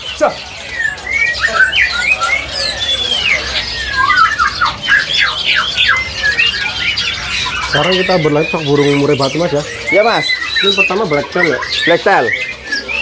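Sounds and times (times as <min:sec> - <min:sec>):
songbirds whistling and chirping: 0:00.0 - 0:13.0.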